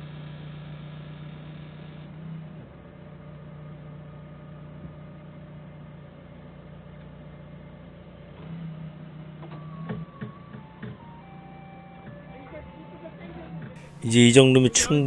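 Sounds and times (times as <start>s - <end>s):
forklift engine humming: 0.0s - 15.0s.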